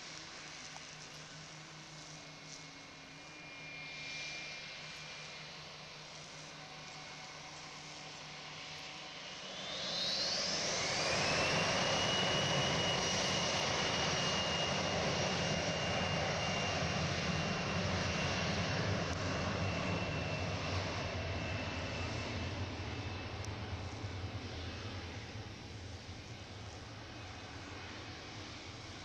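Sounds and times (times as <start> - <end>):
jet engine whine: 0.0 - 29.0.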